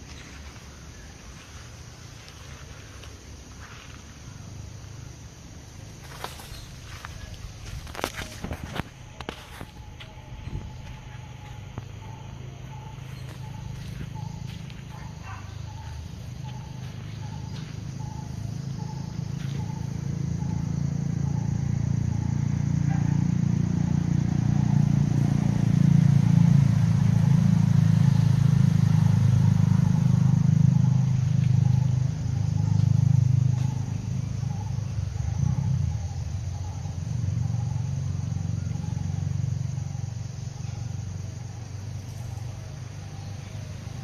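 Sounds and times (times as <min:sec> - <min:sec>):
faint insect chirping: 0:00.0 - 0:44.0
low engine rumble: 0:00.0 - 0:44.0.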